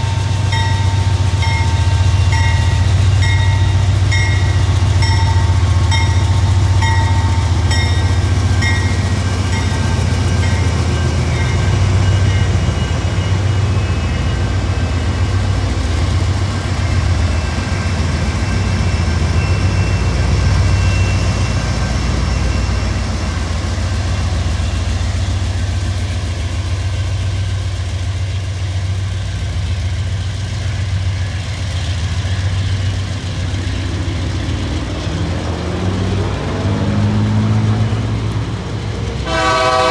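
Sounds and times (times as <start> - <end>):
diesel locomotive drone: 0.0 - 39.9.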